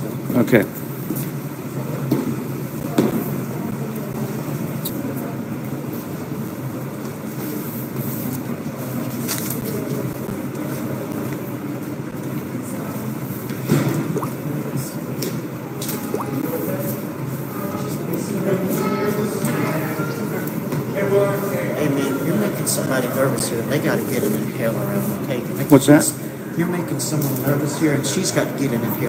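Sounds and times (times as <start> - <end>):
low lobby hum: 0.0 - 29.0.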